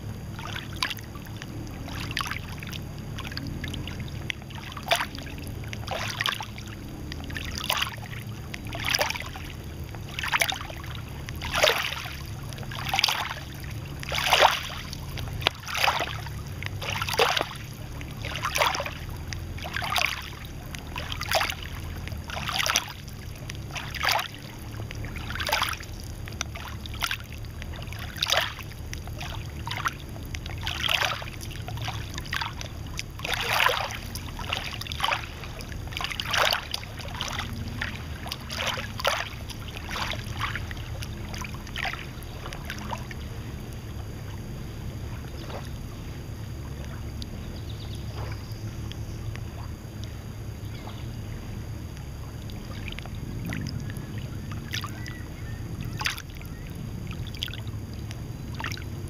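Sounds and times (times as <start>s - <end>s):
waves lapping against shore: 0.0s - 59.0s.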